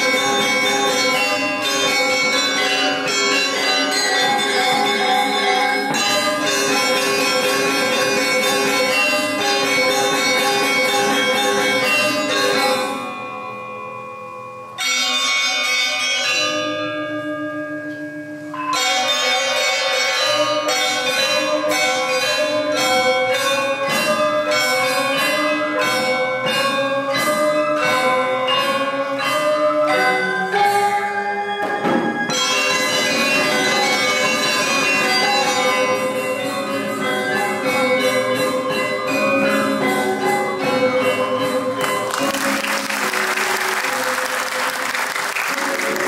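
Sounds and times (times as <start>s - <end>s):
ringing bell-like notes: 0.0s - 44.9s.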